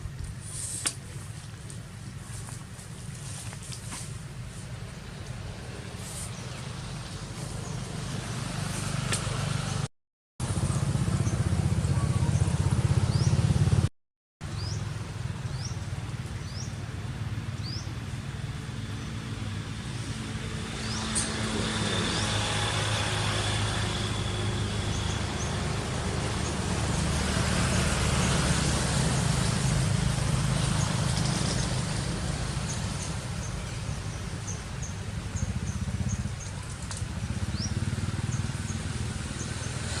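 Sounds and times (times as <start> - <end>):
low rumble of traffic or wind: 0.0 - 40.0.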